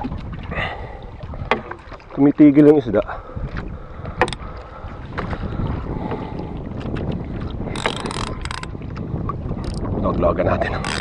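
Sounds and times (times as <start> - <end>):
boat engine rumble: 0.0 - 11.0
wind buffeting microphone: 0.0 - 11.0.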